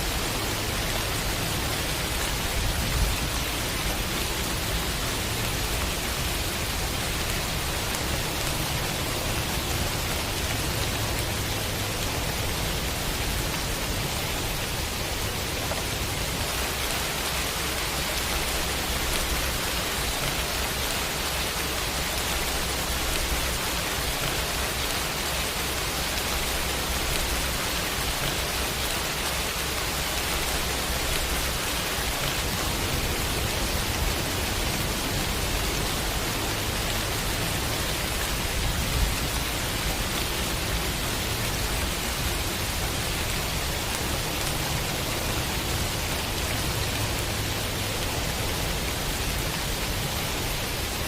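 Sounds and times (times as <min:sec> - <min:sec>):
heavy rain hissing: 0:00.0 - 0:51.0.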